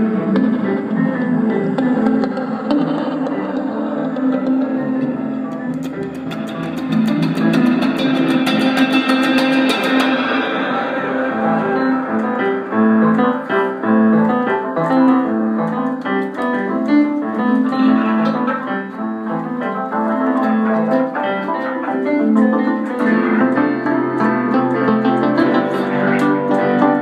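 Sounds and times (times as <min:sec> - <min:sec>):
fast high ticking: 0:00.0 - 0:27.0
keyboard playing fast notes: 0:00.0 - 0:27.0.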